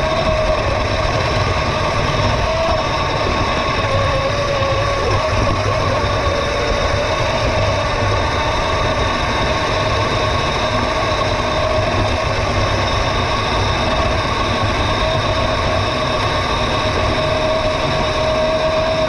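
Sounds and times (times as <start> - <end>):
mini bike motor running: 0.0 - 19.0
wind buffeting microphone: 0.0 - 19.0.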